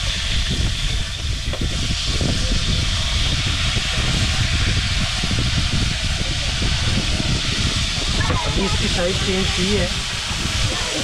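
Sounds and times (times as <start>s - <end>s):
fish sizzling in hot oil: 0.0s - 11.0s
low rumble: 0.0s - 11.0s.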